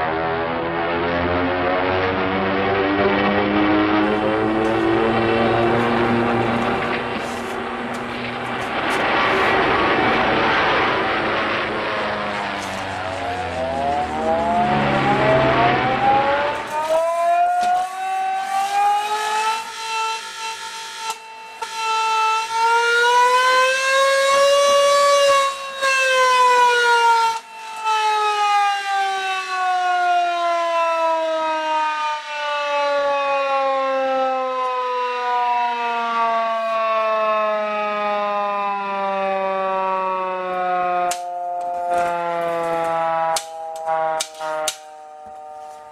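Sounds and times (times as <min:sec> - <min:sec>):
hand-cranked air-raid siren wailing: 0:03.9 - 0:09.0, 0:12.4 - 0:45.9.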